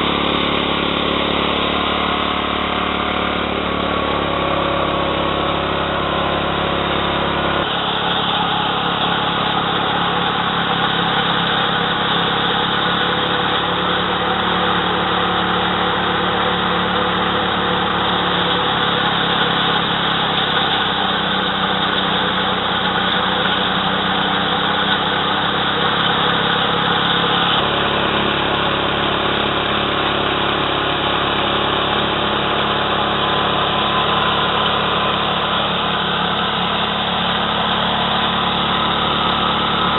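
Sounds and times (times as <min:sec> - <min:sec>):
thresher engine running: 0:00.0 - 0:39.9.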